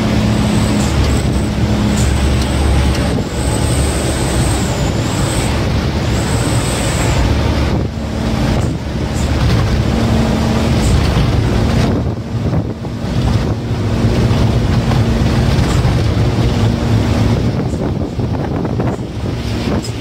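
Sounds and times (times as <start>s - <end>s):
truck engine running: 0.0s - 20.0s
wind and road noise: 0.0s - 20.0s.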